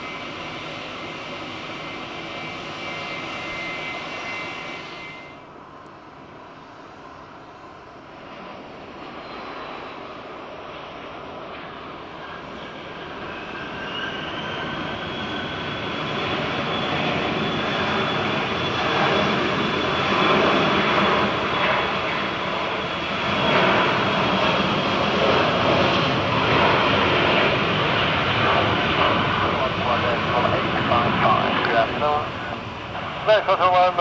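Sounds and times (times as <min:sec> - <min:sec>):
jet engines whining at taxi: 0:00.0 - 0:34.0.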